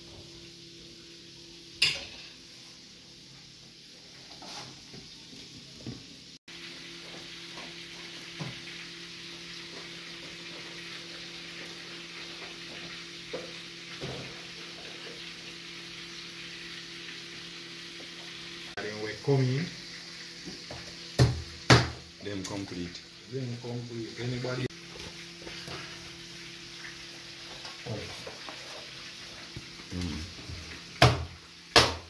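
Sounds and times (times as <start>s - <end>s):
food frying in oil: 0.0s - 32.0s.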